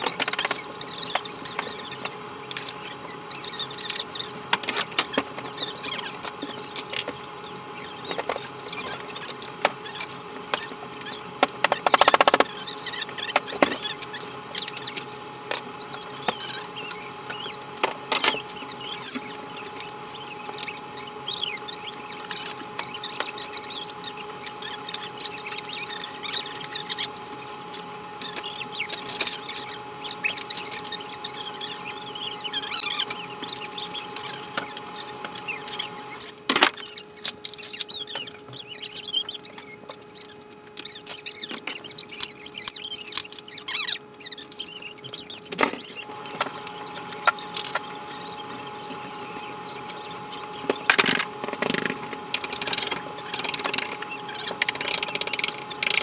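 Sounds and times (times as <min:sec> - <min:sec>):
short high squeaks: 0:00.0 - 0:56.0.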